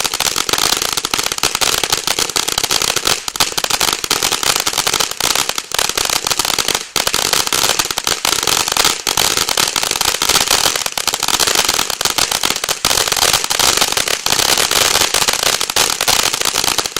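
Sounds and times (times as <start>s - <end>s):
firework crackling: 0.0s - 16.9s.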